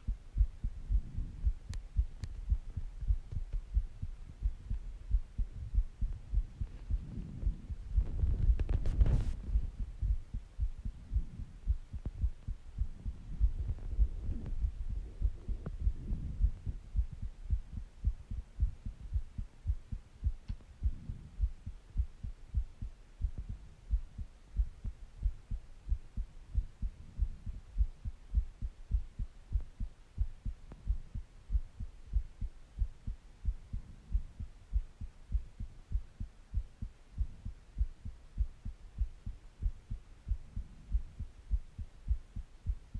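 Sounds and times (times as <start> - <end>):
heartbeat thumps: 0.0 - 42.9
soft breaths: 0.0 - 42.9.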